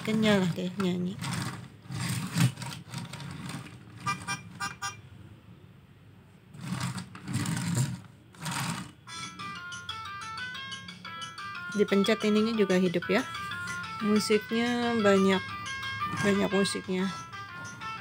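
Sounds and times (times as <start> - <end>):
toy truck sound effects: 1.2 - 5.0, 6.6 - 18.0.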